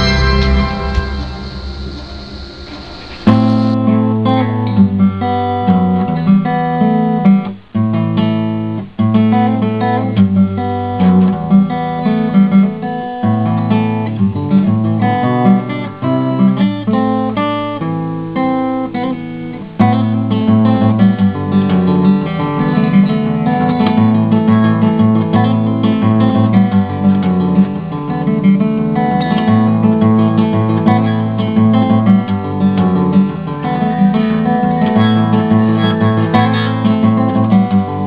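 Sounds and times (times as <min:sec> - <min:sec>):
acoustic guitar tune: 0:00.0 - 0:38.0.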